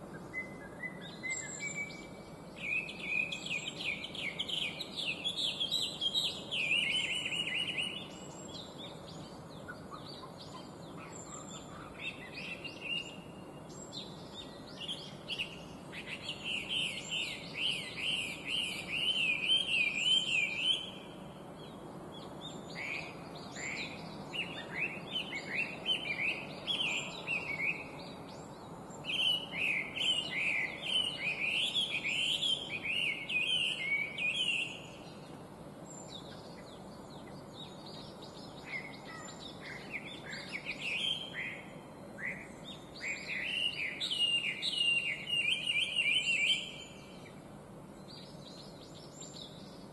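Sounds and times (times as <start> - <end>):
bird singing whistled notes: 0.0 - 47.4, 48.0 - 49.9.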